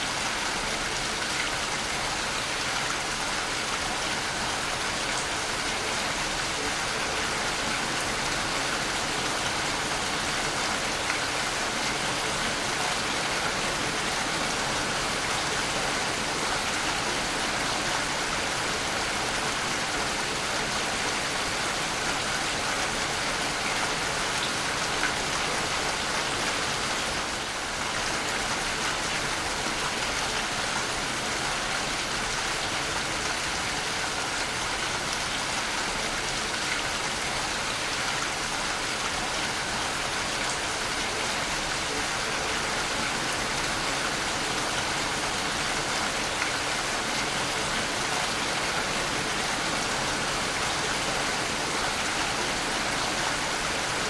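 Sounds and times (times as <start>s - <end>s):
waterfall rushing: 1.4s - 54.0s.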